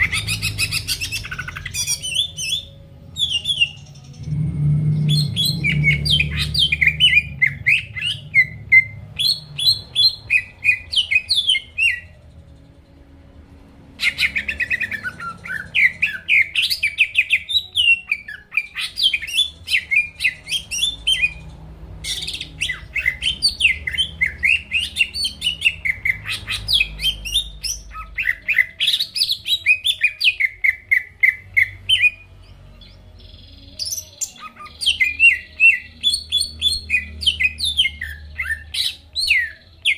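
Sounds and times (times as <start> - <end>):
bird singing chirps and whistles: 0.0 - 12.2, 14.0 - 21.4, 22.1 - 32.2, 32.8 - 39.9.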